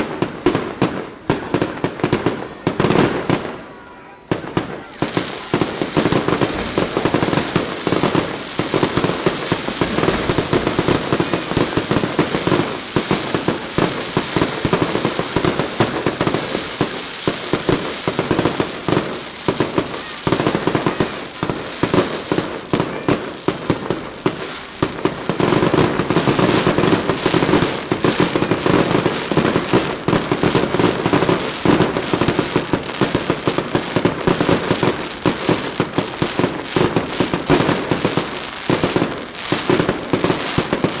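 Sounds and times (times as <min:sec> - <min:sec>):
rapid firecracker bangs: 0:00.0 - 0:41.0.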